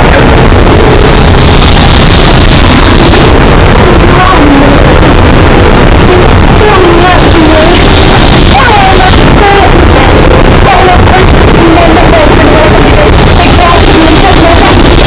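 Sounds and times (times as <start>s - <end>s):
harsh distorted noise music: 0.0s - 15.0s.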